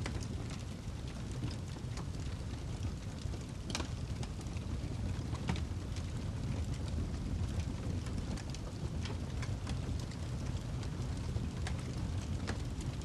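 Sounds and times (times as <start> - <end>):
fire low rumble: 0.0 - 13.0
log fire crackling and popping: 0.0 - 13.0.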